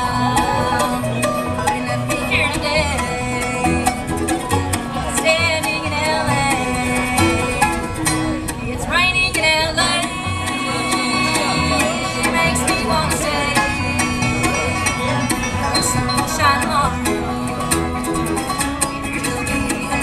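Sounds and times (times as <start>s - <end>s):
bluegrass band playing: 0.0s - 20.0s.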